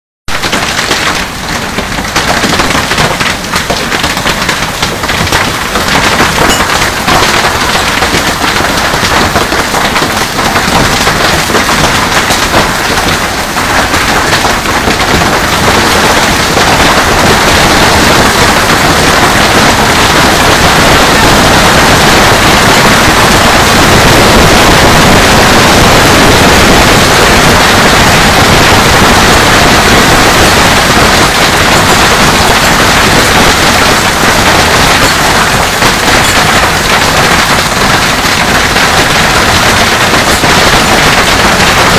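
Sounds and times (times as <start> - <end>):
hailstones pelting hard surfaces: 0.3 - 41.9.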